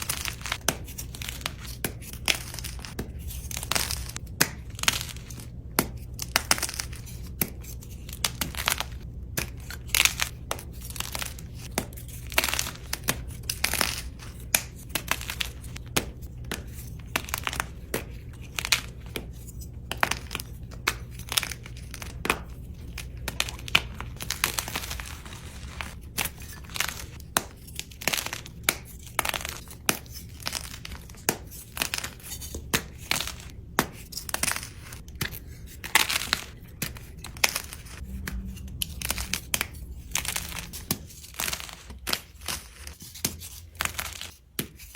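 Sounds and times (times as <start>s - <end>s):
chalk crunching and crumbling: 0.0s - 44.9s
low steady hum: 0.0s - 44.9s.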